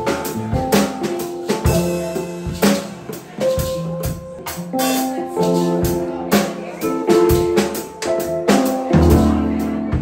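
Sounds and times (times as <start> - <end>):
live band music: 0.0 - 10.0.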